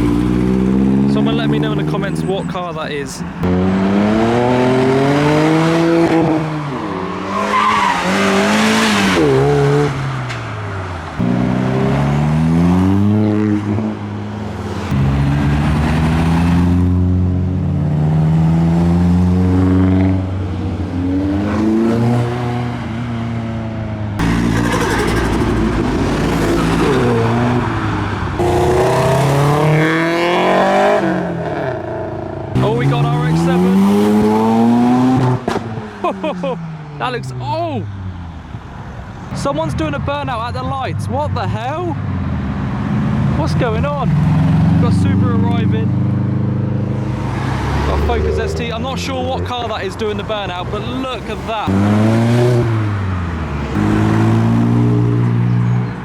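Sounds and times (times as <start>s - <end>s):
car engines revving and accelerating: 0.0s - 56.0s.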